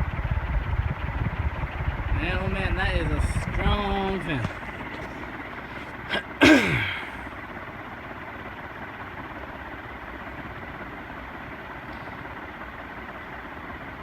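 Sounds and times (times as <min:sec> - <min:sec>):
ceiling fan running: 0:00.0 - 0:14.0.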